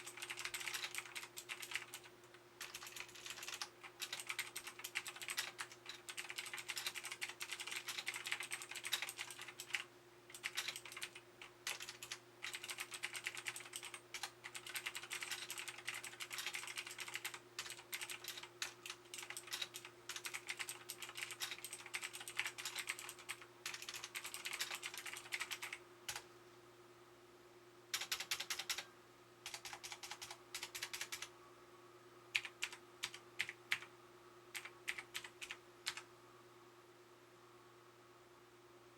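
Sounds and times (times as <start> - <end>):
mechanical keyboard typing: 0.0 - 26.2, 28.0 - 28.9, 29.5 - 31.3, 32.4 - 33.9, 34.5 - 36.1
faint steady hum: 0.0 - 38.9.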